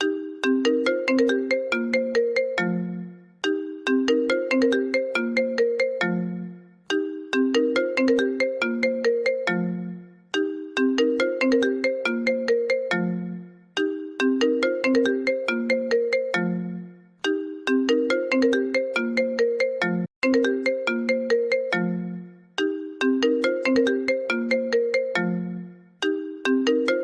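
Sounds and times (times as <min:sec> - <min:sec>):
phone ringtone melody: 0:00.0 - 0:27.0.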